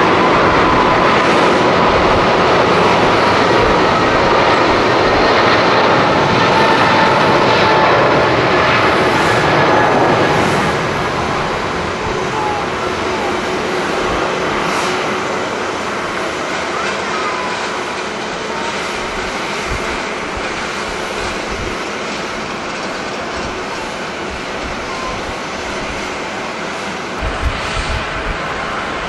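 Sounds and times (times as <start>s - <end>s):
wind buffeting microphone: 0.0s - 16.6s, 18.8s - 29.0s
jet airliner engine roar: 0.0s - 29.0s.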